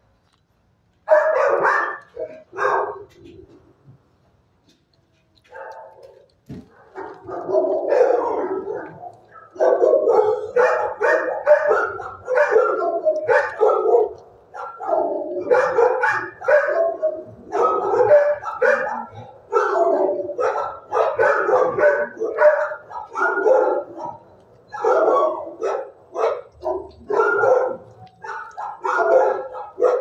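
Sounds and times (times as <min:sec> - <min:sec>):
dogs barking: 0:01.0 - 0:03.6, 0:05.4 - 0:30.0.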